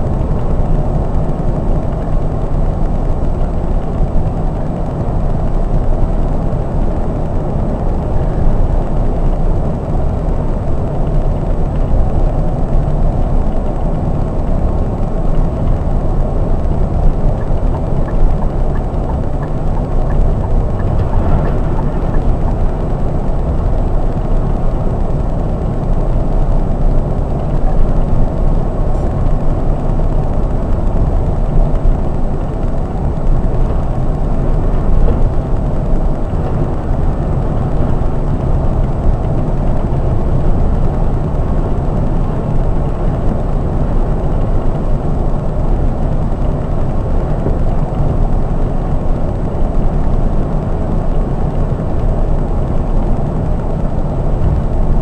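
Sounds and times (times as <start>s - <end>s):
coach engine and road rumble: 0.0s - 55.0s.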